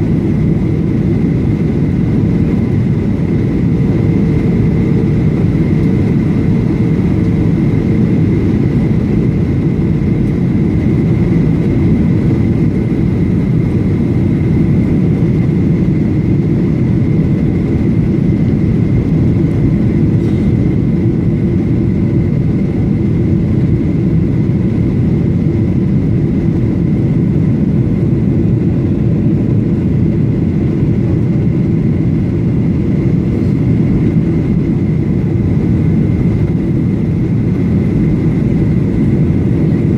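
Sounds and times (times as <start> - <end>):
airflow and jet engine rumble: 0.0 - 39.9
low hum: 0.0 - 39.9
thin steady whine: 0.0 - 39.9.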